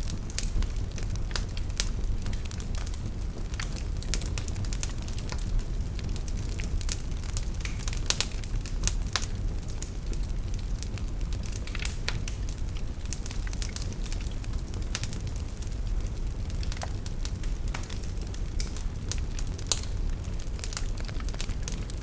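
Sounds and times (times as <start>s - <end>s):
flames rumbling: 0.0s - 22.0s
logs crackling and popping: 0.0s - 22.0s.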